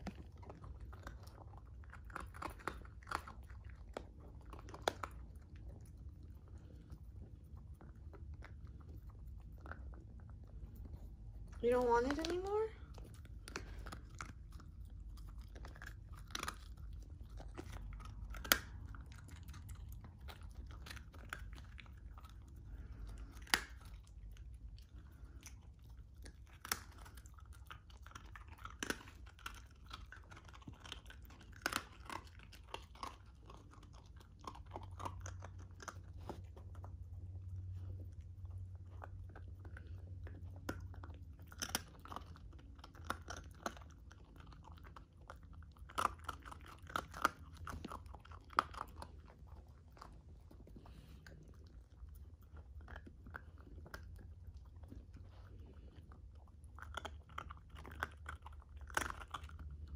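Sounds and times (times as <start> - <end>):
faint low hum: 0.0 - 59.9
puppy crunching dog biscuit: 0.0 - 59.9.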